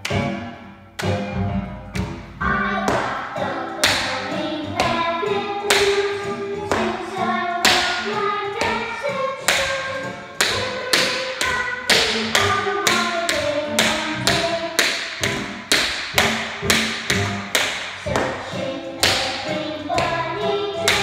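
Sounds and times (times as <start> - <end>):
song playing: 0.0 - 21.0
tap shoes on wooden floor: 1.9 - 8.8, 9.4 - 21.0.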